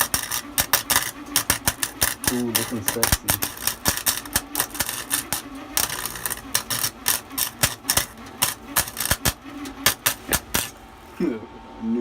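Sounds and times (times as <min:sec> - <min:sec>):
welder arc crackling: 0:00.0 - 0:11.2.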